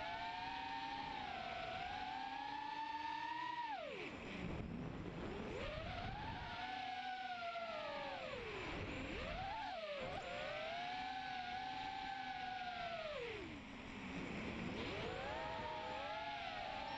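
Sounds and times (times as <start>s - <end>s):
quadcopter motors whining: 0.0s - 16.9s.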